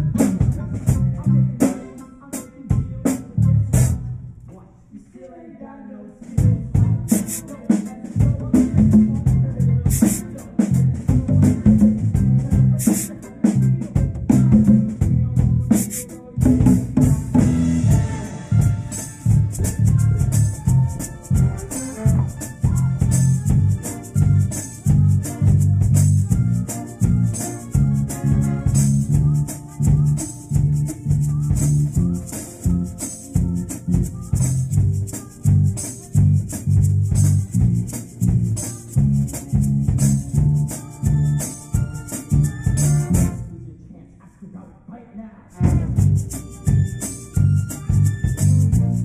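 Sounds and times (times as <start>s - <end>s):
pit band playing up-tempo music: 0.0s - 4.4s, 6.2s - 43.6s, 45.5s - 49.0s
rattling shaker rhythm: 6.4s - 43.5s, 45.6s - 49.0s.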